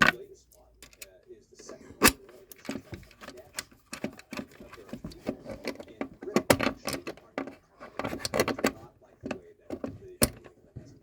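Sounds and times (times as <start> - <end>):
socket faceplate clicking and knocking: 0.0 - 0.2, 2.0 - 10.6.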